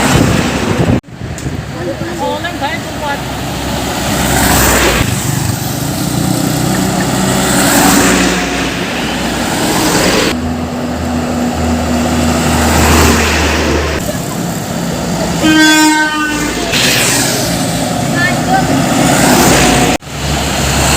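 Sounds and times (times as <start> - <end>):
heavy diesel trucks passing: 0.0 - 20.9.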